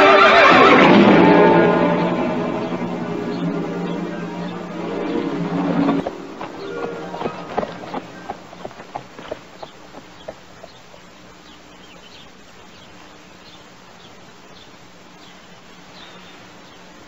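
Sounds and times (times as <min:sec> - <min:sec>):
steady low hum: 0:00.7 - 0:17.0
birds chirping faintly: 0:02.1 - 0:17.0.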